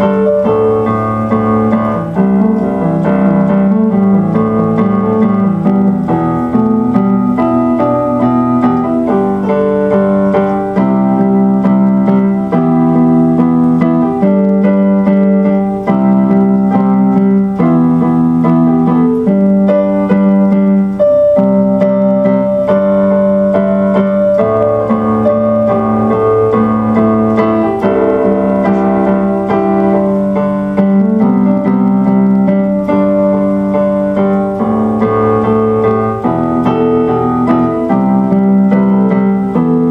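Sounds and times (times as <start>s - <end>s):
piano or keyboard music: 0.0s - 39.9s.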